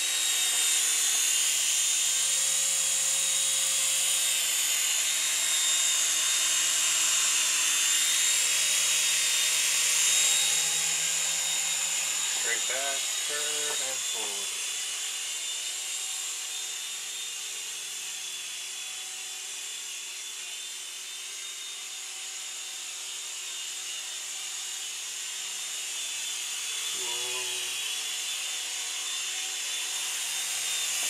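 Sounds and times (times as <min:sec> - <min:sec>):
toy helicopter rotor whine: 0:00.0 - 0:31.0.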